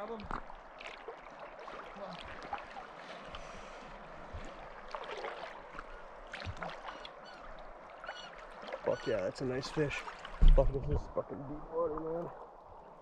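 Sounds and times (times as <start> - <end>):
small splashes: 0.0 - 10.9.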